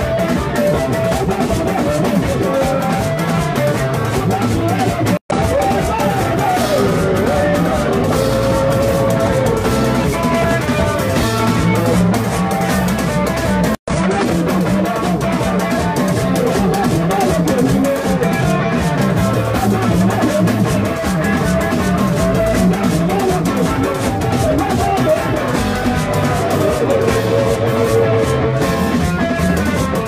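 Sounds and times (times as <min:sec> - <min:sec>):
drums: 0:00.0 - 0:30.0
electric guitar: 0:00.0 - 0:30.0.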